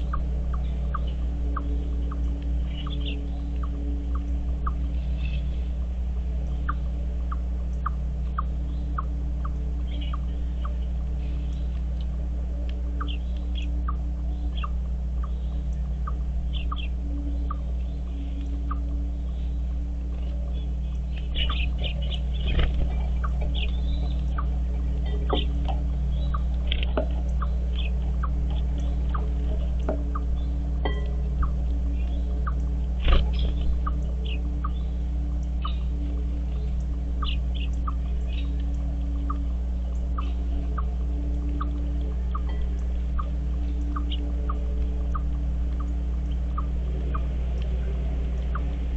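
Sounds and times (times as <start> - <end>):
birds chirping: 0.0 - 48.9
birds twittering: 0.0 - 48.9
steady low hum: 0.0 - 48.9.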